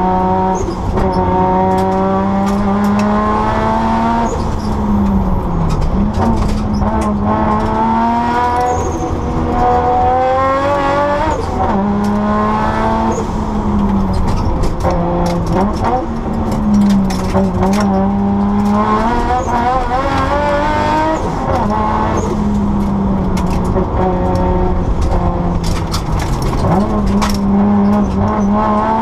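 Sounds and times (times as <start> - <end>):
rally car engine revving: 0.0 - 29.0
road noise: 0.0 - 29.0.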